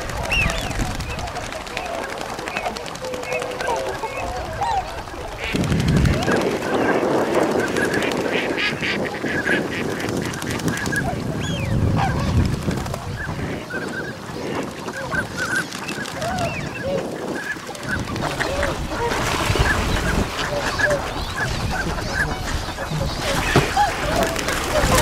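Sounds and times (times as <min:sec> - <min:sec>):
swans honking: 0:00.0 - 0:11.3, 0:13.2 - 0:25.0
ducks calling: 0:00.0 - 0:25.0.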